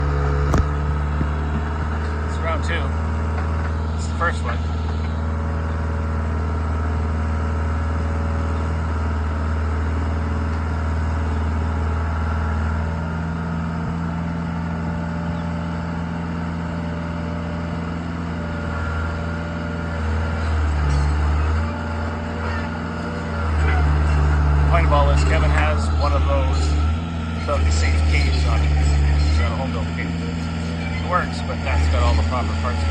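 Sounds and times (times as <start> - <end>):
skid steer engine running: 0.0 - 32.9.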